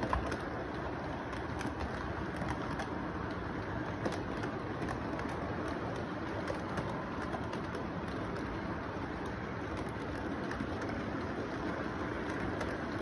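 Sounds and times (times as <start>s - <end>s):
model train rolling rumble: 0.0s - 13.0s
wheels clicking over rail joints: 0.0s - 13.0s.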